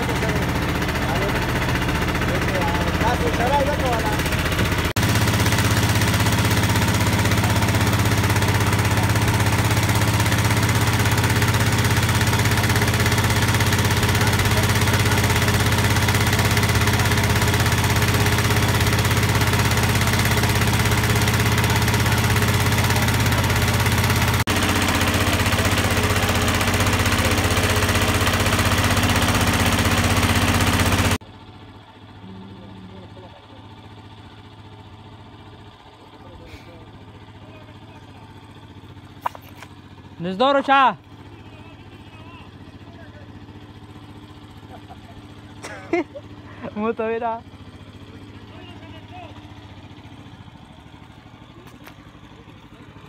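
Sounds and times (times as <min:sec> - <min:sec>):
small boat engine running: 0:00.0 - 0:53.0.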